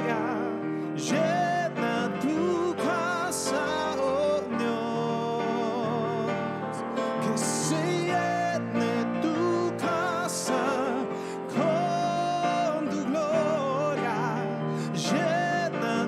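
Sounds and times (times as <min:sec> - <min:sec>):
electric keyboard chords: 0:00.0 - 0:16.0
man singing with vibrato: 0:00.0 - 0:16.0.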